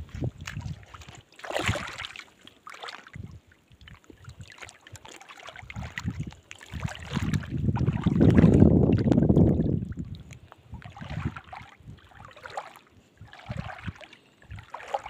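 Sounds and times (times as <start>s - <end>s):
wind rumbling on microphone: 0.0s - 2.0s, 3.1s - 12.4s, 13.0s - 15.0s
seawater lapping among rocks: 0.0s - 15.0s.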